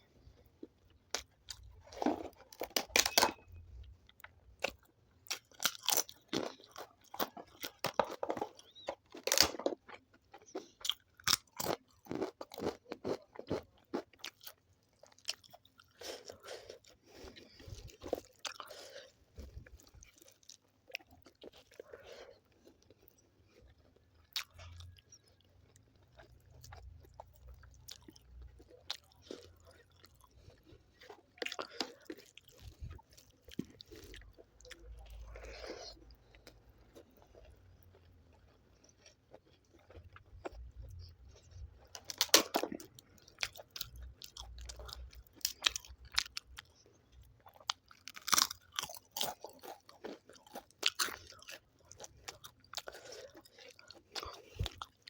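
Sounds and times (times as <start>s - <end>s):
close chewing and crunching: 0.0s - 55.0s.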